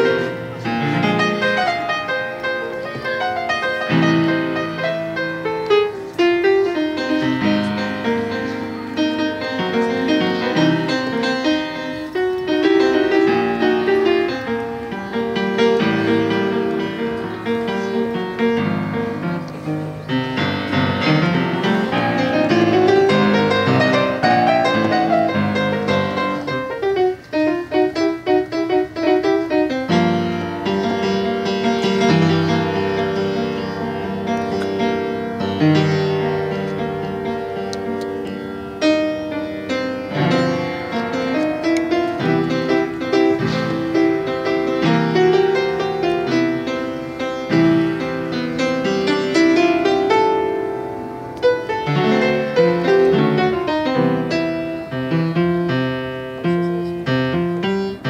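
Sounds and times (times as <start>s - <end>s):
solo piano music: 0.0s - 58.0s.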